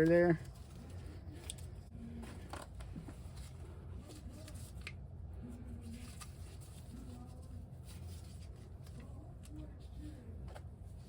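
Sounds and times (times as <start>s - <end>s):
faint scraping and rustling: 0.0s - 11.0s
low steady hum: 0.0s - 11.0s.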